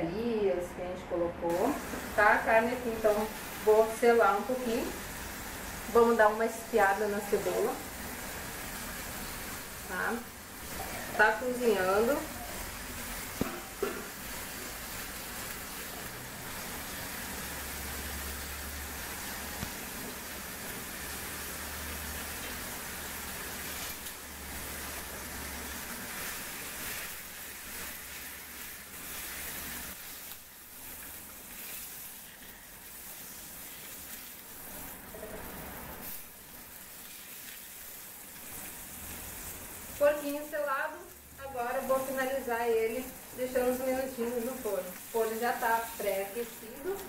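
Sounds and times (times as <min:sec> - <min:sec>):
meat sizzling in a frying pan: 0:01.5 - 0:47.0.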